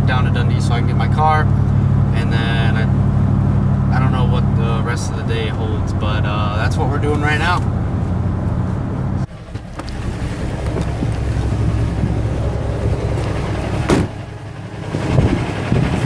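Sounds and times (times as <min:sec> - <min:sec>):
diesel truck engine drone: 0:00.0 - 0:16.0.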